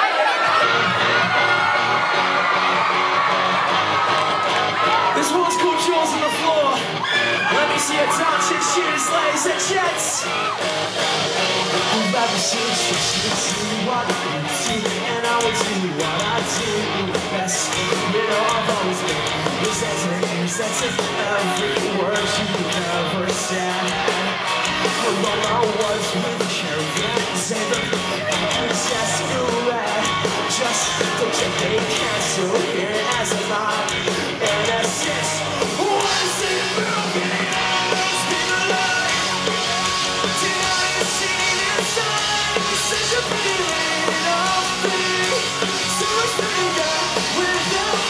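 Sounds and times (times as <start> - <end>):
distorted electric guitars: 0.0 - 48.0
singer singing and shouting: 0.0 - 48.0
bass guitar: 0.4 - 48.0
drum kit: 0.4 - 48.0.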